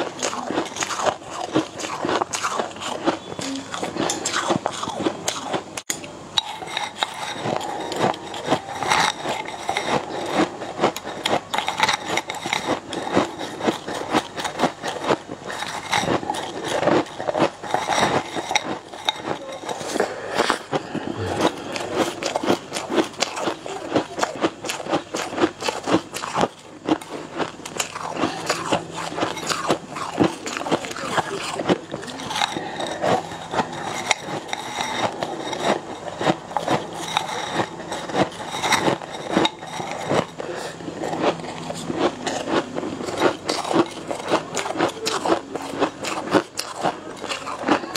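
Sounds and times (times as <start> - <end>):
chewing: 0.0 - 47.9
chopsticks scraping against bowl: 0.0 - 47.9.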